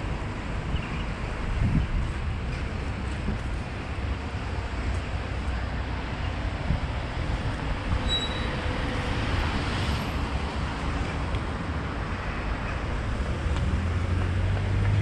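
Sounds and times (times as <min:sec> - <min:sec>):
road noise: 0:00.0 - 0:15.0
wind noise: 0:00.6 - 0:04.8, 0:06.2 - 0:15.0.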